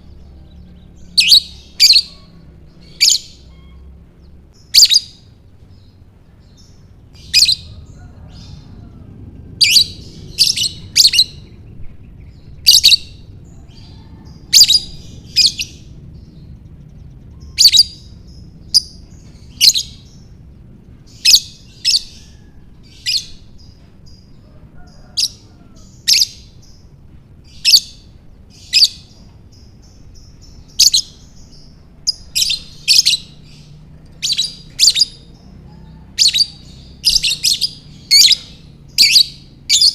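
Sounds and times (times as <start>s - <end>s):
lovebird chirping: 0.0s - 8.9s, 9.6s - 20.3s, 27.5s - 39.9s.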